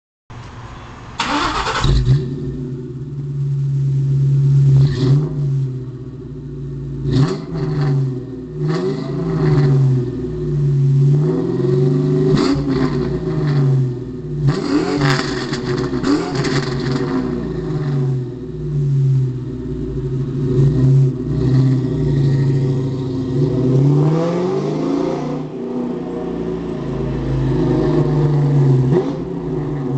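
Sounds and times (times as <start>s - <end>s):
car engine starting and revving: 1.2s - 29.9s.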